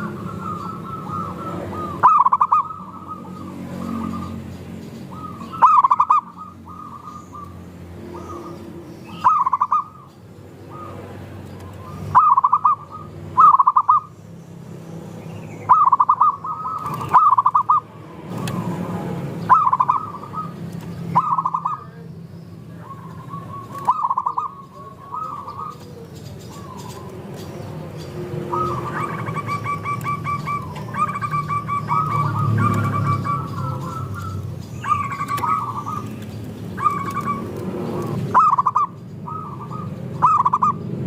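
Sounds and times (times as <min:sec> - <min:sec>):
doves cooing: 0:00.0 - 0:14.2, 0:15.6 - 0:41.0.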